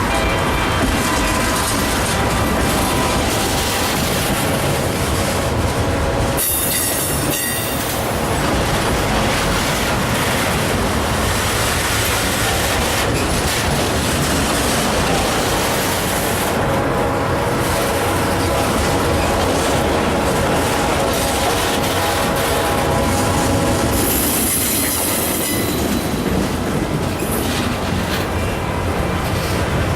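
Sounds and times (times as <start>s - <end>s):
train wheels rumbling on rail: 0.0s - 29.9s.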